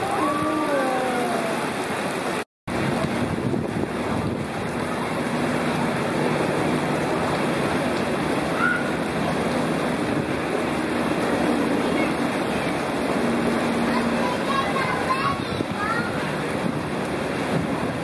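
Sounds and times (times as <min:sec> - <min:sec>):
water rushing and churning: 0:00.0 - 0:18.0.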